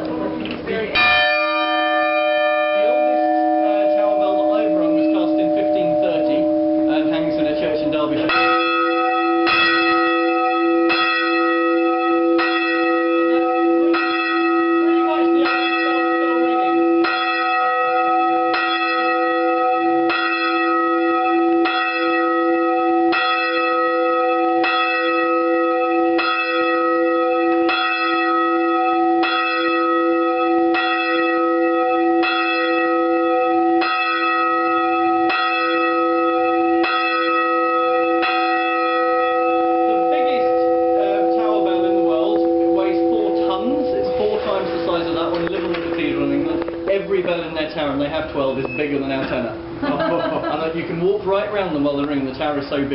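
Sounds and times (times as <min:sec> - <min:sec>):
church tower bell ringing: 0:00.0 - 0:52.9.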